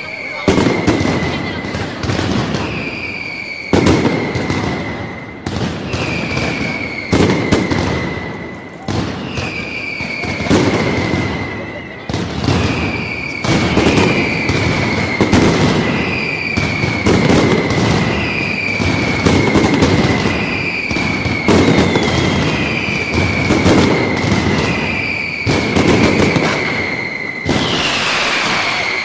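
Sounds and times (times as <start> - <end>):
fireworks bangs and crackles: 0.0 - 29.0
high falling whistle: 0.0 - 29.0.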